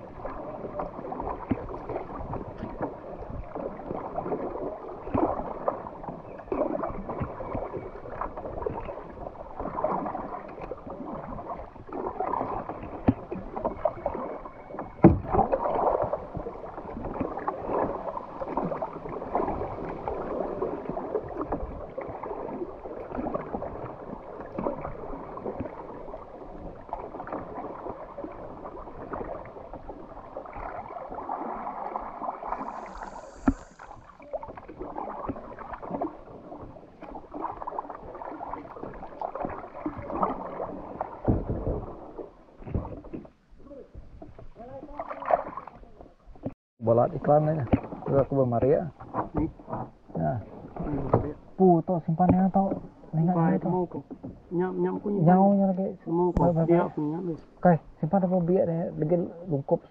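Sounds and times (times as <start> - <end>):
water splashing around kayak: 0.0 - 59.9.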